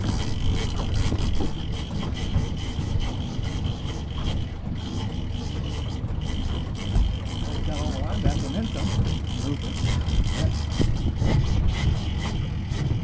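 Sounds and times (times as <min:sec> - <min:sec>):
boat engine rumbling: 0:00.0 - 0:13.0
rubbing noises: 0:00.0 - 0:13.0.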